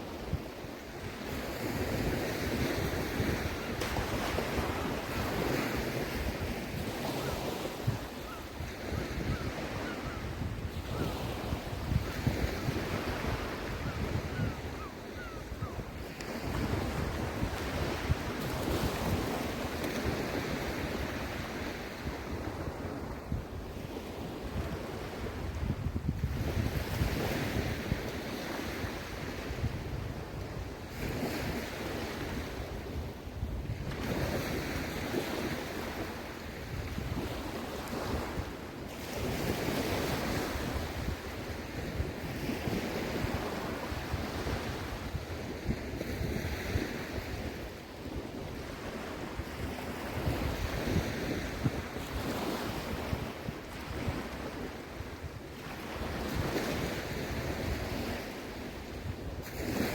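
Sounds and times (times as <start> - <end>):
small waves washing onto sand: 0.0 - 59.9
wind rumbling on microphone: 0.0 - 59.9.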